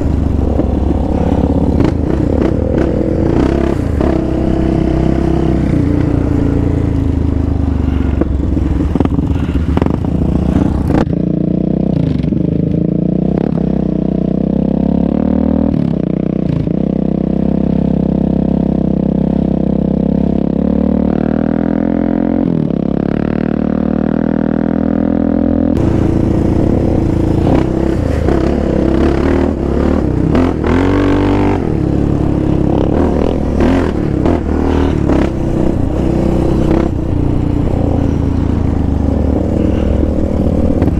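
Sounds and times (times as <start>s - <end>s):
quad engine revving: 0.0s - 15.7s, 20.0s - 40.9s.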